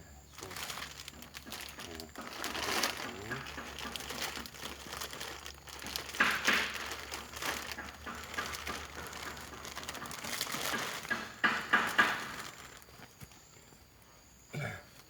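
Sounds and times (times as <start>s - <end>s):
plastic bag crinkling: 0.3s - 13.2s.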